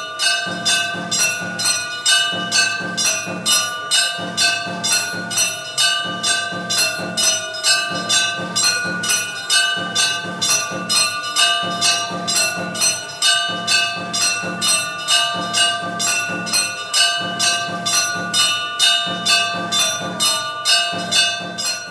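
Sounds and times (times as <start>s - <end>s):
temple bell ringing: 0.0s - 21.9s.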